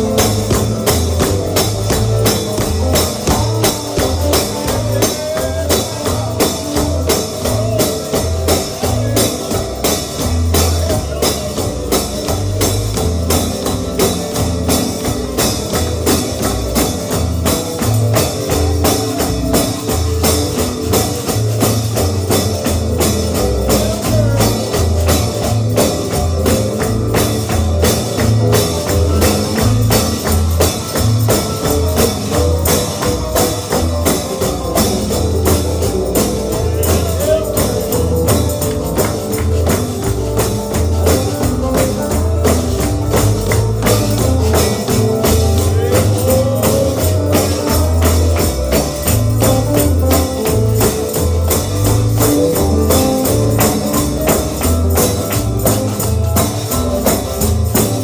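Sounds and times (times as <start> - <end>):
gospel music: 0.0 - 58.0
pulsing bass line: 0.0 - 58.0
tambourine beat: 0.0 - 58.0.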